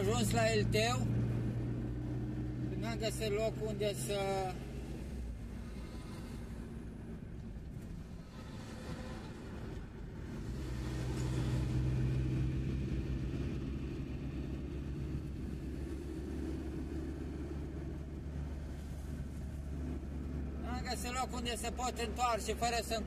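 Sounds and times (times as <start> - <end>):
van engine and tyre noise: 0.0 - 23.0.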